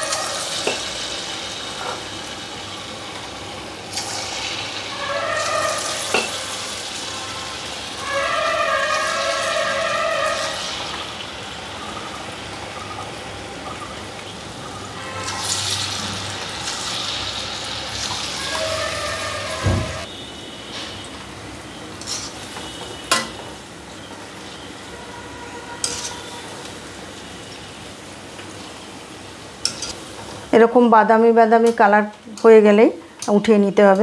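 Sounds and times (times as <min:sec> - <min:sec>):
batter sizzling in hot oil: 0:00.0 - 0:25.1, 0:25.8 - 0:34.0.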